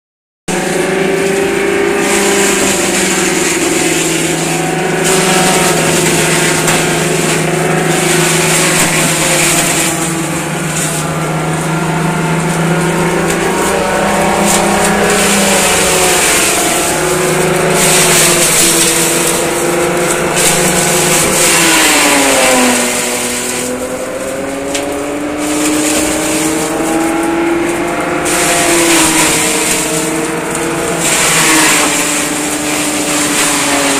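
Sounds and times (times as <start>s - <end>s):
engine running: 0.5s - 33.9s.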